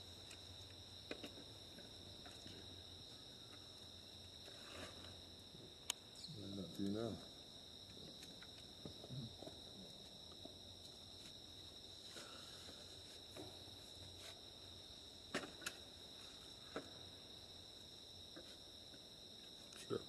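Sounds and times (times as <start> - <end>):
insect chorus chirring: 0.0 - 20.0.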